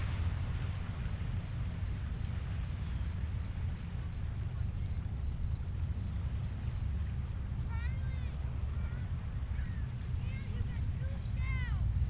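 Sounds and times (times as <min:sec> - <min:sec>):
ocean surf rumble: 0:00.0 - 0:12.0.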